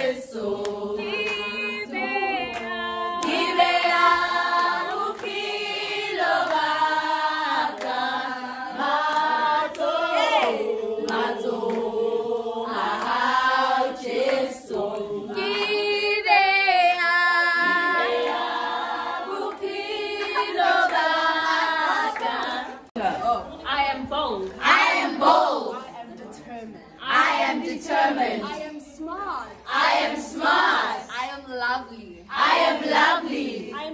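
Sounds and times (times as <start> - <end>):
group singing unaccompanied: 0.0 - 33.9.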